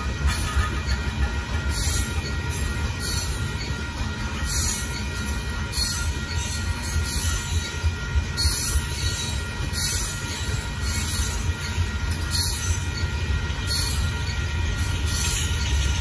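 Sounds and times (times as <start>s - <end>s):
freight train rumbling: 0.0s - 16.0s
hissing clack from wheels: 0.0s - 16.0s.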